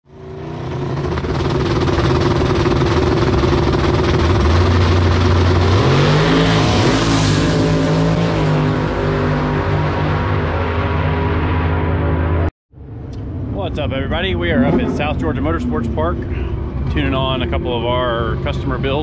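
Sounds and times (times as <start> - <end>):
loud truck engine running: 0.1 - 19.0.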